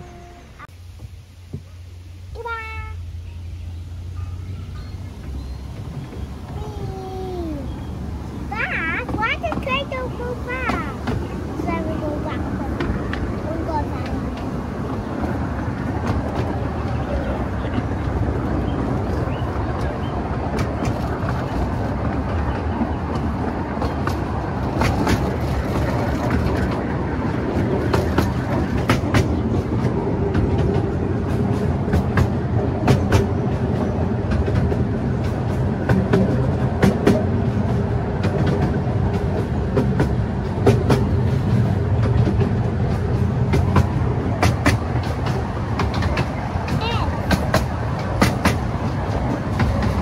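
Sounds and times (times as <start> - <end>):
train wheels rumbling on rail: 0.0 - 50.0
wheels clacking over rail joints: 0.0 - 50.0.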